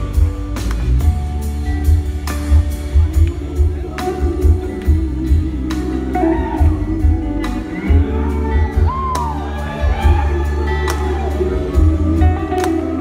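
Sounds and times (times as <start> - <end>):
drums and cymbals: 0.0 - 12.9
bass guitar: 0.0 - 13.0
electric guitars: 0.0 - 13.0
sliding lead guitar line: 0.0 - 13.0.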